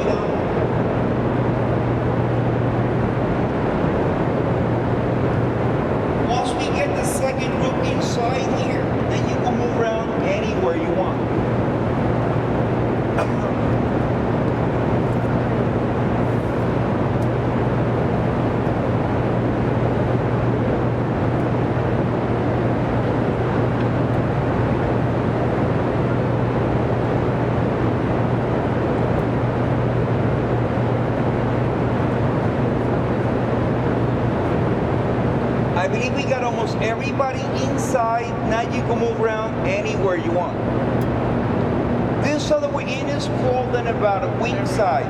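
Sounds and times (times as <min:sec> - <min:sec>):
generator hall roar and hum: 0:00.0 - 0:45.0.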